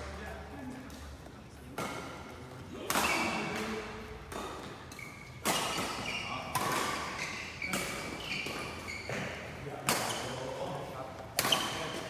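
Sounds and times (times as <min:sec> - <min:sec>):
rackets hitting shuttlecock: 0:00.8 - 0:12.0.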